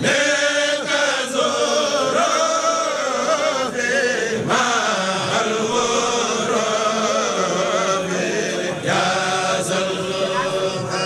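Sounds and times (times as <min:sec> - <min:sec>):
group chanting a devotional poem: 0:00.0 - 0:11.0.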